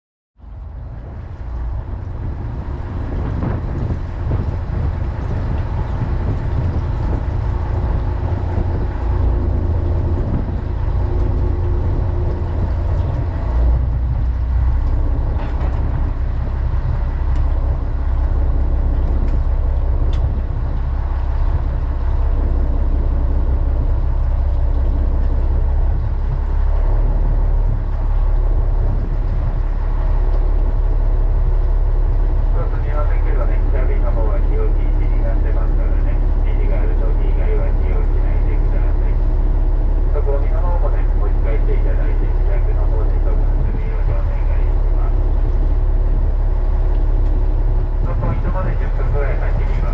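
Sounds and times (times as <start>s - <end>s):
boat engine drone: 0.4s - 49.9s
wind and water noise: 0.4s - 49.9s.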